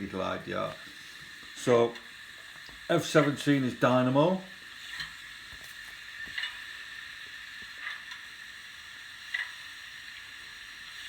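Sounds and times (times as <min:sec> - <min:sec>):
soft steam puffs: 0:00.0 - 0:11.0
steam hiss through small speaker: 0:00.0 - 0:11.0.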